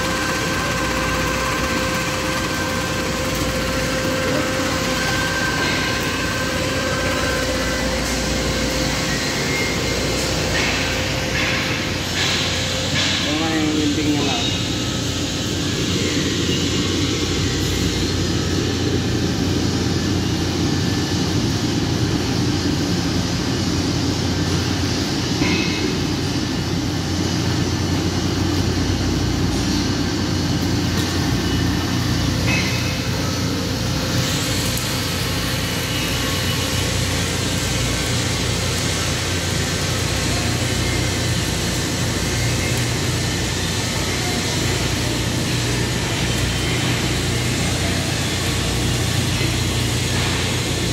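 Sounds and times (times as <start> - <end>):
arc welding crackling sizzle: 0.0 - 50.9.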